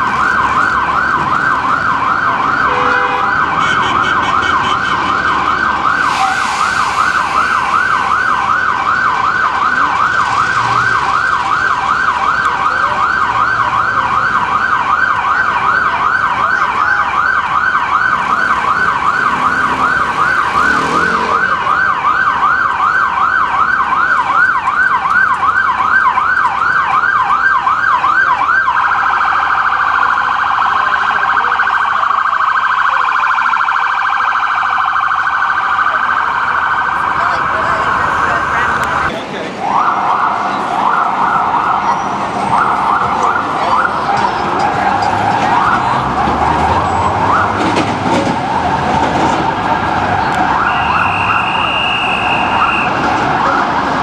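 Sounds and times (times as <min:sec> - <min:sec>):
ambulance siren yelp: 0:00.0 - 0:54.0.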